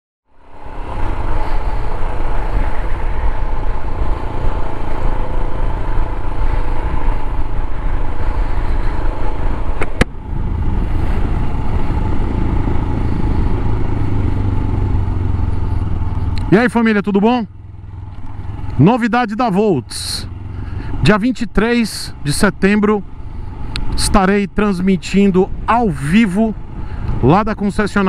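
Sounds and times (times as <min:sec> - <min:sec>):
motorcycle engine running: 0:00.5 - 0:28.0.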